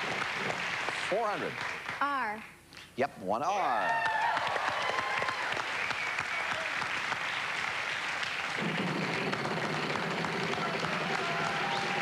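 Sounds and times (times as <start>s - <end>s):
studio audience applauding: 0.0s - 2.2s, 3.6s - 12.0s.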